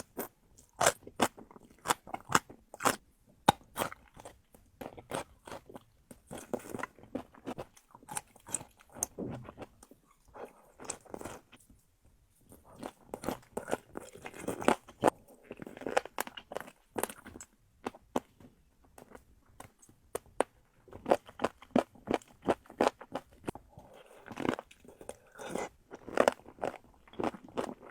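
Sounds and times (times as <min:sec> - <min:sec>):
person chewing crunchy food: 0:00.0 - 0:11.6, 0:12.5 - 0:18.4, 0:19.0 - 0:27.9.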